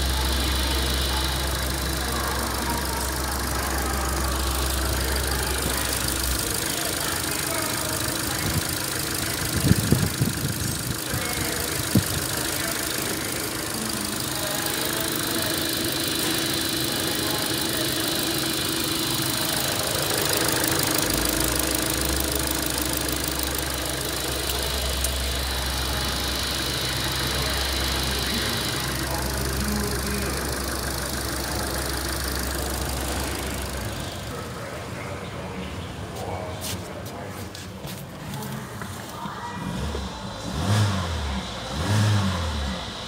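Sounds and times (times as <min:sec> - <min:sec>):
car engine idling: 0:00.0 - 0:36.7, 0:37.8 - 0:43.0.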